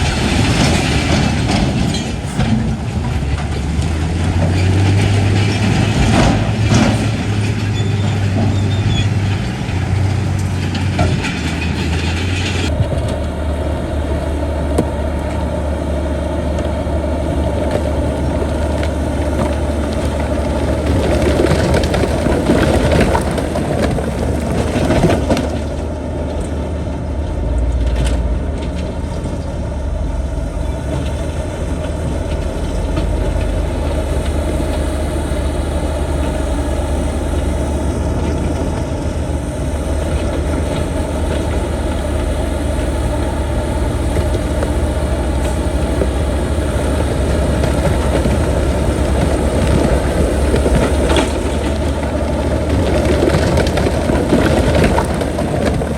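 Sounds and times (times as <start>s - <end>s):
heavy machinery diesel engine: 0.0s - 55.9s.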